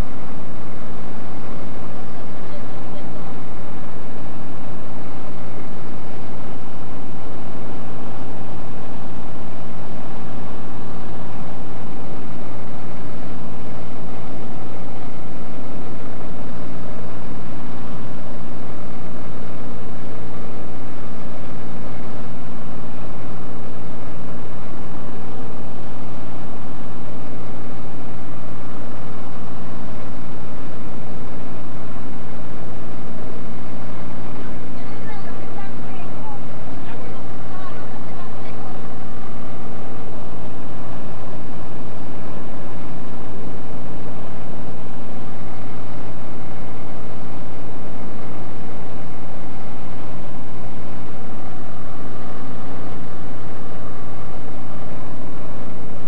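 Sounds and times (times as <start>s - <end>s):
light aircraft engine droning: 0.0s - 52.9s.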